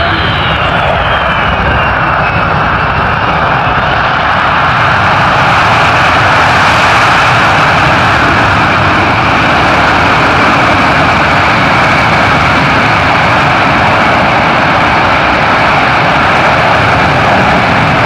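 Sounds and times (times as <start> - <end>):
jet engines in reverse thrust: 0.0 - 18.0.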